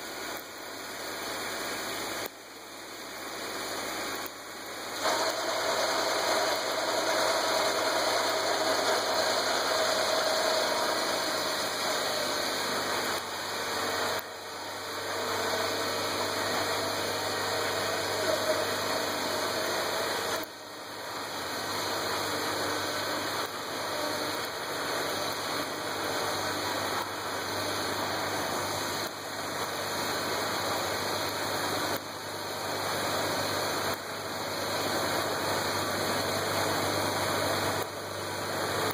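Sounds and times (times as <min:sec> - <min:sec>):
snow blower whirring: 0:00.0 - 0:38.9
tractor diesel engine running: 0:02.9 - 0:38.9.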